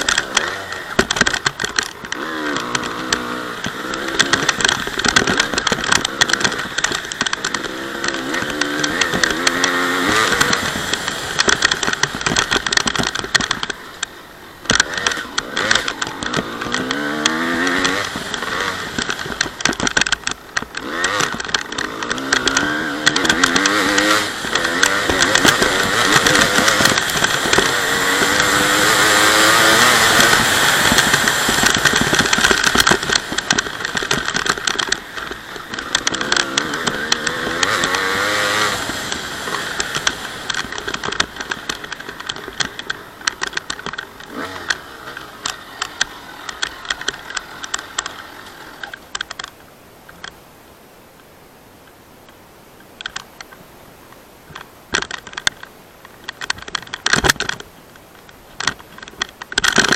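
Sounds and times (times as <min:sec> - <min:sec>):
two-stroke engine revving: 0:00.0 - 0:49.5
clicks and rattles: 0:00.0 - 0:50.4, 0:51.2 - 0:59.9.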